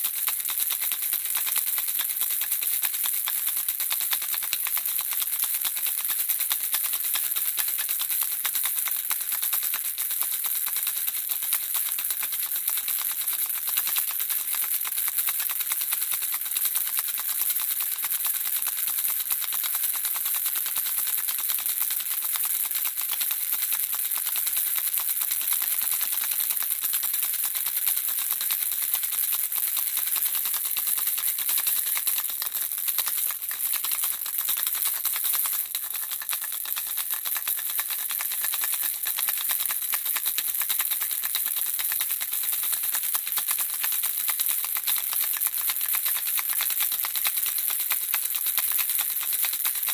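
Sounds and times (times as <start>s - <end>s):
baby rattle shaken: 0.0s - 49.9s.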